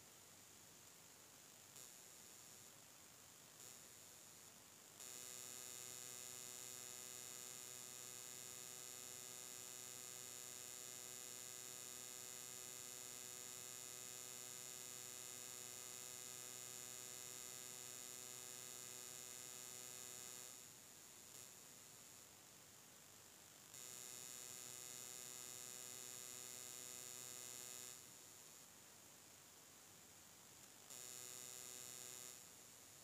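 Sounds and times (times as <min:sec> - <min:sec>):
electrical hum with high whine: 0:00.0 - 0:33.0.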